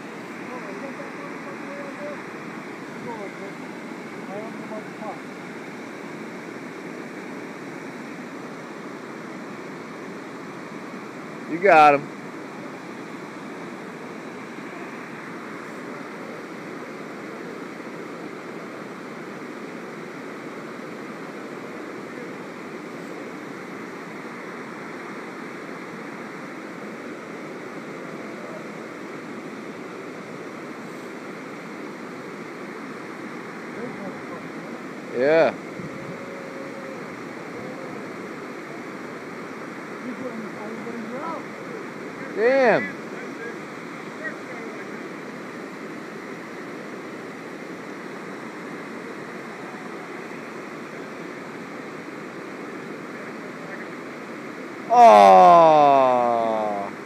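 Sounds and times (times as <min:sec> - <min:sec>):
water rushing over spillway: 0:00.0 - 0:57.0.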